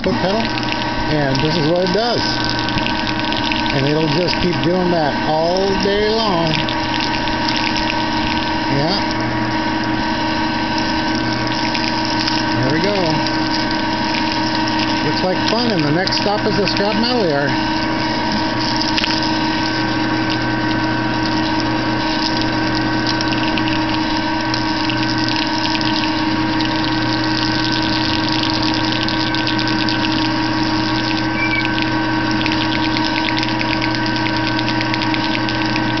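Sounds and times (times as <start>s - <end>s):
wire-stripping machine humming: 0.0s - 36.0s.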